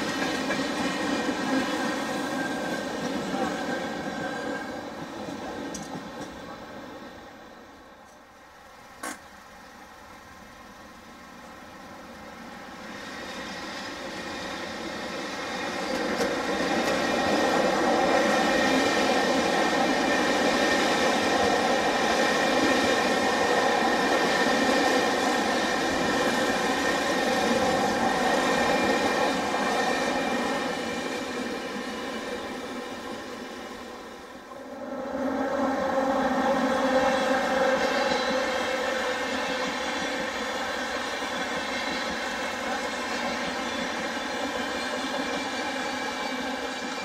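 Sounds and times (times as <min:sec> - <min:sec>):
train wheels running over rails: 0:00.0 - 0:47.0.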